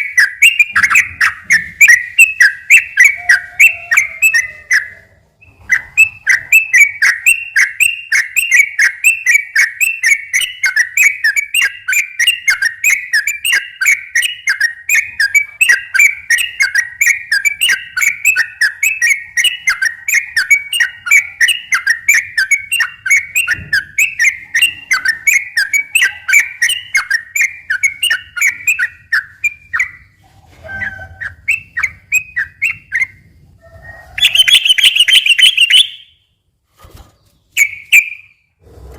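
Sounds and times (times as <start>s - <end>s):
bird singing whistled notes: 0.0s - 30.2s, 30.8s - 33.2s, 34.2s - 36.2s, 37.4s - 38.5s.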